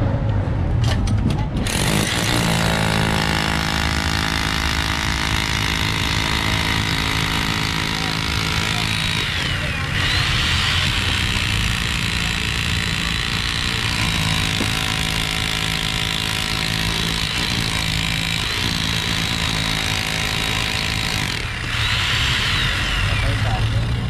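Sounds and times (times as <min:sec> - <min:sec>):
rotary hammer chipping concrete: 0:01.6 - 0:24.0.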